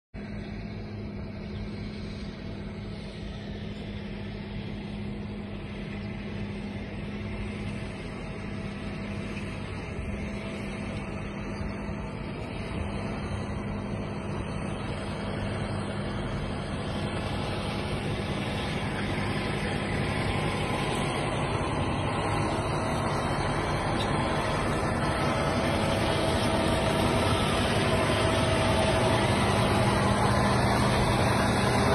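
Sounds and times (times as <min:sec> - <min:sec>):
tractor diesel engine under load: 0:00.2 - 0:31.9.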